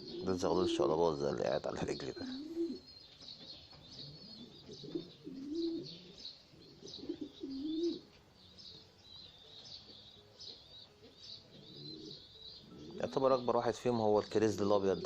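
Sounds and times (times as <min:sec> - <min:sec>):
pigeons cooing: 0:00.0 - 0:08.2, 0:09.9 - 0:15.0.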